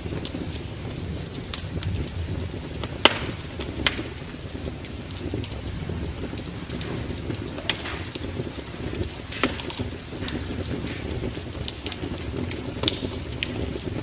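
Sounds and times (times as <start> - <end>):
low rumble of flames: 0.0 - 14.0
sharp pops of fire: 0.0 - 14.0
wood fire crackling: 0.0 - 14.0.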